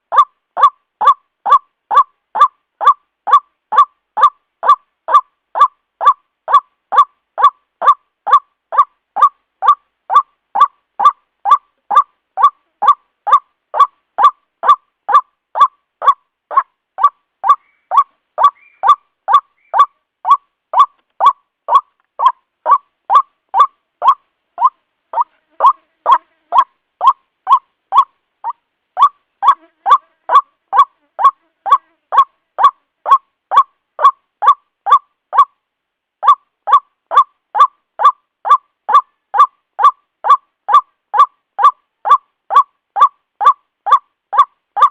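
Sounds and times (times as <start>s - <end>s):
waterhen calling: 0.0s - 35.5s, 36.2s - 44.9s.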